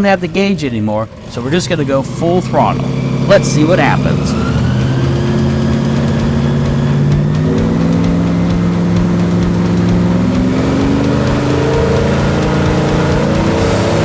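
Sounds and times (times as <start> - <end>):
airboat engine and propeller droning: 0.0 - 14.0.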